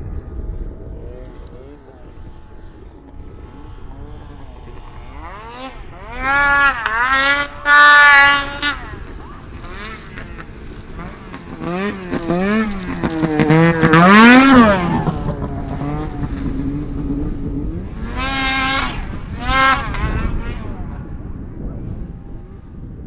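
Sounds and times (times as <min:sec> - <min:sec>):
snowmobile engine revving: 0:00.1 - 0:22.6.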